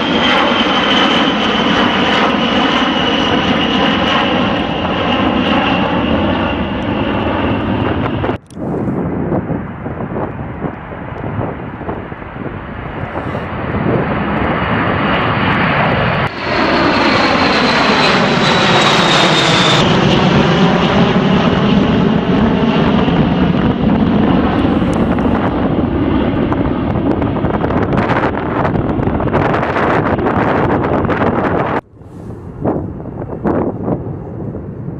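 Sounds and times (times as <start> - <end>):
high turbine whine: 0.0 - 34.9
jet aircraft passing: 0.0 - 34.9.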